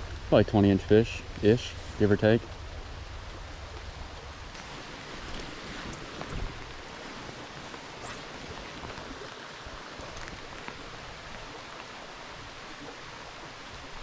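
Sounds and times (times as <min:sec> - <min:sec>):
flowing creek rushing: 0:00.0 - 0:14.0.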